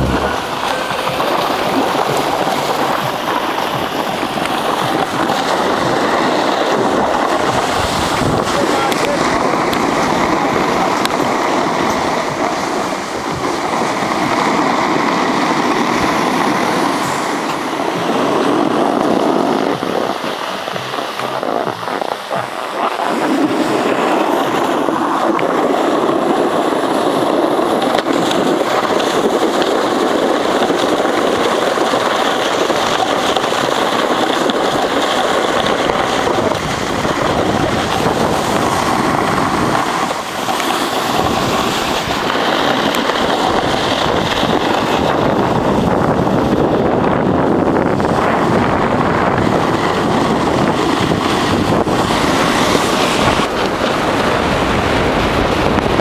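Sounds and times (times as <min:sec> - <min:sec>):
skis hissing on snow: 0:00.0 - 0:45.8, 0:49.5 - 0:55.5
wind on microphone: 0:00.0 - 0:56.0.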